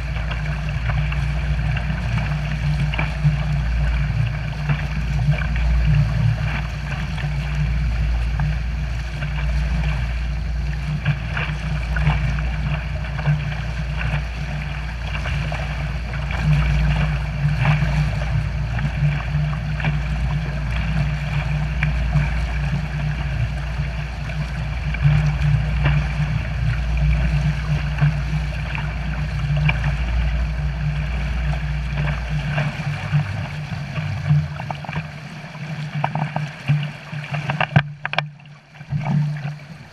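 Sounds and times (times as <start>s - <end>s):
outboard motor drone: 0.0s - 39.9s
wake water churning: 0.0s - 39.9s
wind rumbling on microphone: 0.0s - 39.9s.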